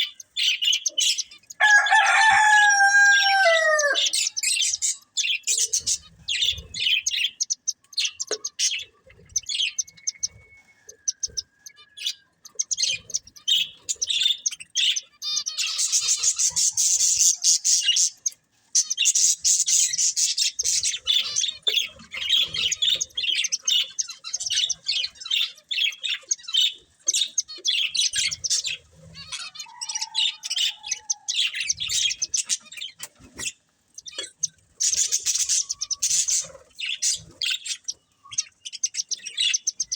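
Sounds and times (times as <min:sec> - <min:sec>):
budgerigars chattering: 0:00.0 - 0:02.1, 0:02.8 - 0:39.9.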